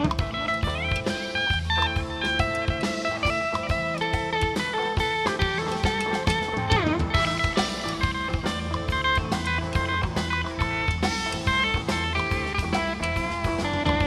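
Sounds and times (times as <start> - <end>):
bass guitar: 0.0 - 14.0
drum kit beat: 0.0 - 14.0
electric guitar notes: 0.0 - 14.0.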